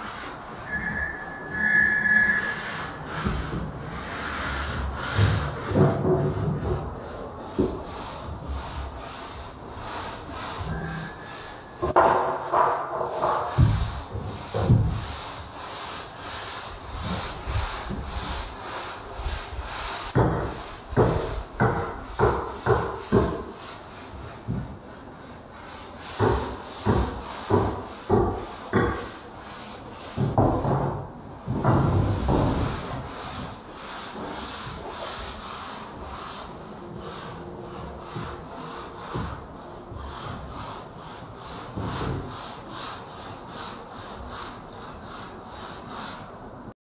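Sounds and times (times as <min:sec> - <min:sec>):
wood rubbing strokes: 0:00.0 - 0:46.4
sanding on wood: 0:01.6 - 0:46.4.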